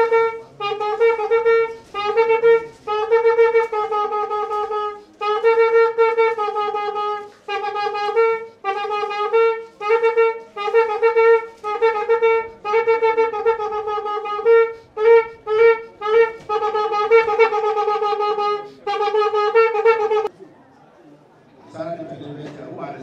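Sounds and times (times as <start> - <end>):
horn blowing: 0.0 - 20.3.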